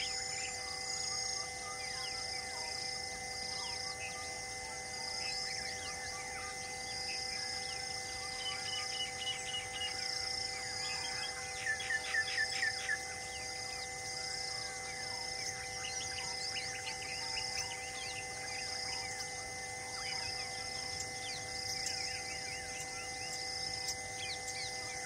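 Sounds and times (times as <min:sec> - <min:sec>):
insects trilling: 0:00.0 - 0:25.0
wild birds chirping: 0:00.0 - 0:25.0.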